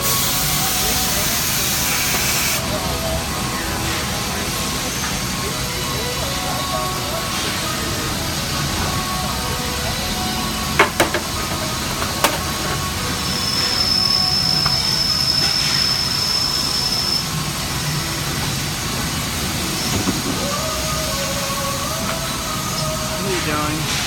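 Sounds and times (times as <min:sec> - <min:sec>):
high machine whine: 0:00.0 - 0:24.0
machine running: 0:00.0 - 0:24.0.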